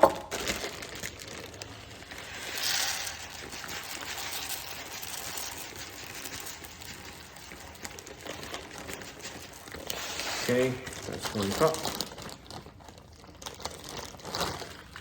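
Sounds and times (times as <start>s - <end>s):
rice pouring into a cup: 0.2s - 15.0s.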